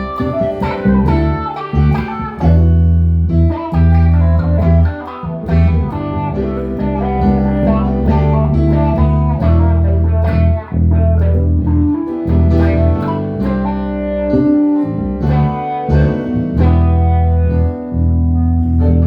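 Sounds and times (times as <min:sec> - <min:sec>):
bass guitar sustained notes: 0:00.0 - 0:19.0
plucked guitar: 0:00.0 - 0:19.0.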